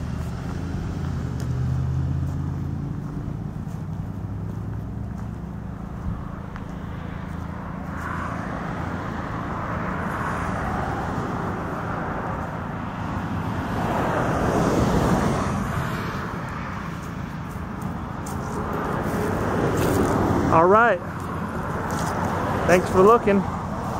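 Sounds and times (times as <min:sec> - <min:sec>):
motor vehicle passing: 0:00.0 - 0:23.9.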